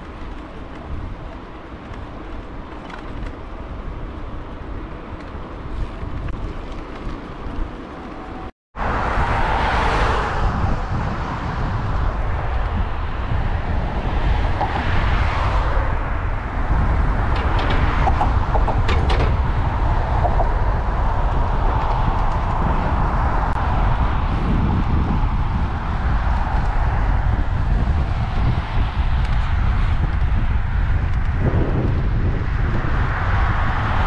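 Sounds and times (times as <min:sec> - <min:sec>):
bicycle rolling noise: 0:00.0 - 0:08.5, 0:10.4 - 0:34.0
wind buffeting microphone: 0:00.0 - 0:34.0.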